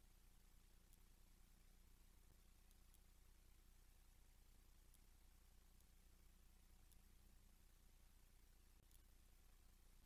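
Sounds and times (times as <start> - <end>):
faint hiss: 0.0 - 10.0
faint low hum: 0.0 - 10.0.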